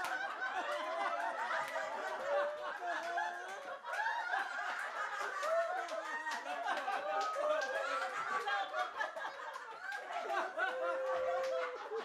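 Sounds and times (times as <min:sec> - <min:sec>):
group of people laughing: 0:00.0 - 0:12.0.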